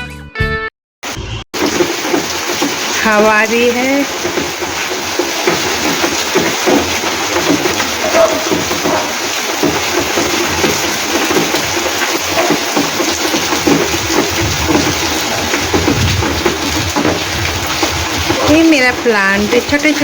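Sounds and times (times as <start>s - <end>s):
heavy rain pouring: 1.0s - 20.0s
wind blowing: 1.6s - 20.0s.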